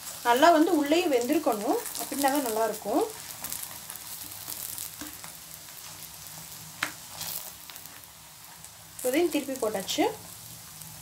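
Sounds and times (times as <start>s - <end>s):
flatbread sizzling in oil: 0.0s - 11.0s.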